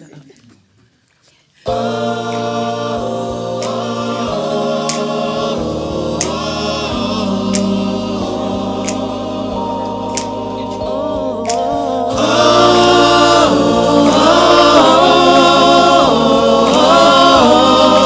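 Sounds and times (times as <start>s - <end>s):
gospel music: 1.2s - 18.0s.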